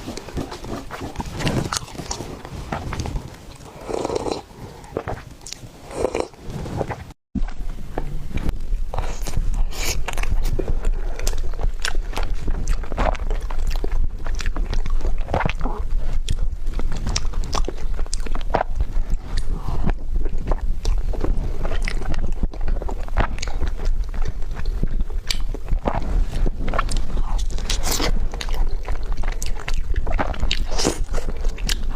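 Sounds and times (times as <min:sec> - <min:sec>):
person chewing cake: 0:00.0 - 0:07.1, 0:08.4 - 0:31.9.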